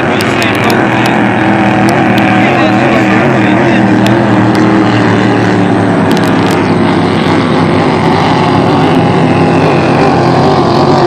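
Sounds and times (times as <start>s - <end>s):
racing boat engine drone: 0.0s - 11.0s.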